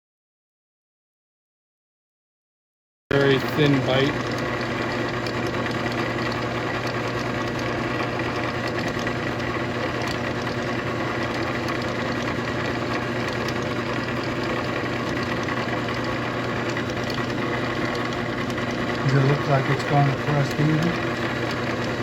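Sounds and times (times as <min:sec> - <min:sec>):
drill press motor humming: 0:03.1 - 0:22.0.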